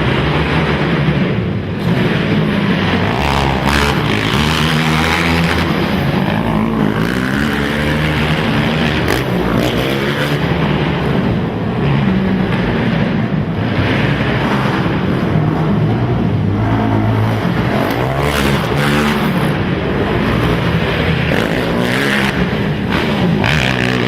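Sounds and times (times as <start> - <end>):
quad engines revving: 0.0 - 24.0.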